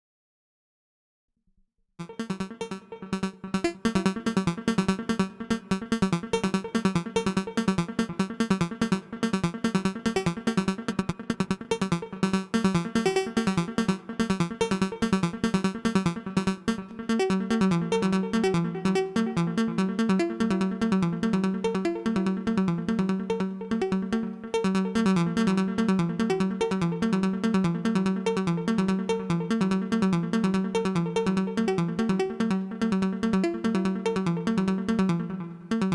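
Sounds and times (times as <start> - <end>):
synthesizer plucked notes with echo: 2.0 - 35.9.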